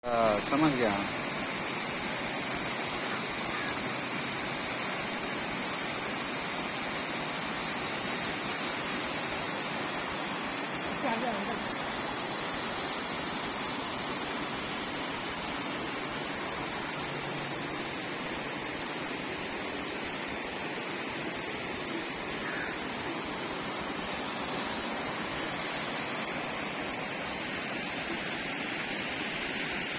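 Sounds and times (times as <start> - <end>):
rushing water: 0.0 - 29.9.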